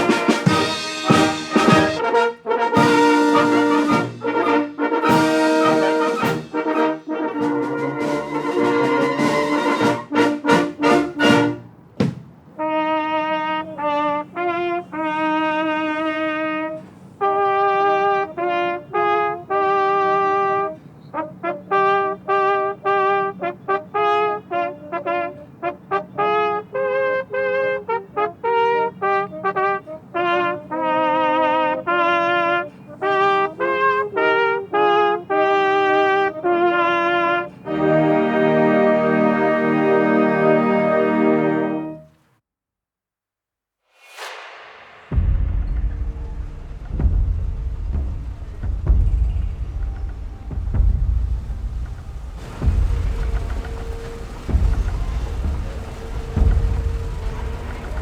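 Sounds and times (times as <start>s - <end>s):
faint sustained backing: 0.0s - 11.8s, 12.6s - 42.2s, 44.2s - 58.0s
solo brass melody: 0.0s - 11.8s, 12.6s - 42.3s, 51.4s - 58.0s
brass ensemble playing: 0.0s - 11.9s, 12.6s - 42.2s, 49.5s - 58.0s.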